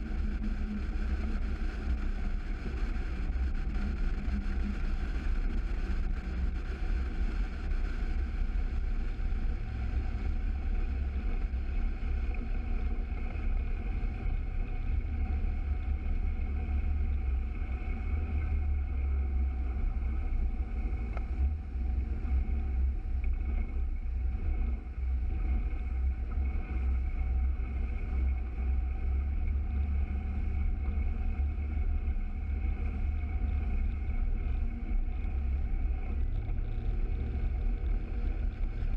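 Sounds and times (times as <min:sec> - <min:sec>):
outboard motor drone: 0:00.0 - 0:38.9.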